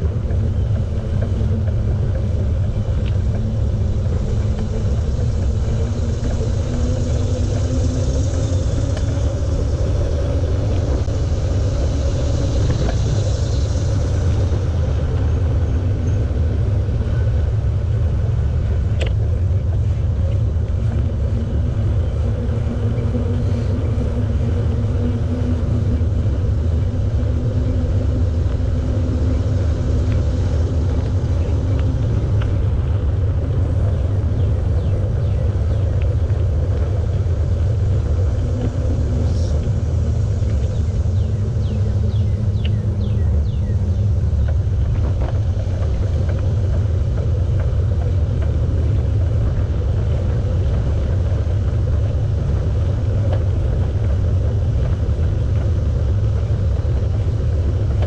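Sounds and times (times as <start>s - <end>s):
faint humming tone: 0.0s - 58.0s
wind rumbling on microphone: 0.0s - 58.0s.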